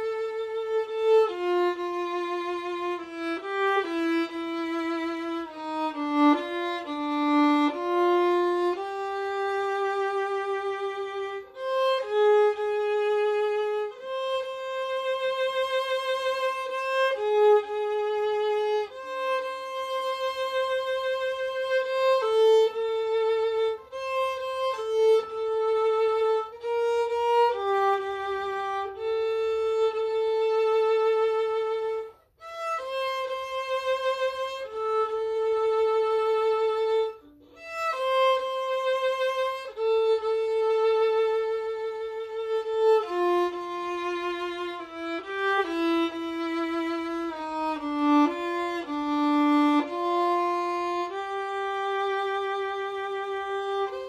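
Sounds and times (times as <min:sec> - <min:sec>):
solo violin slow melody: 0:00.0 - 0:54.0.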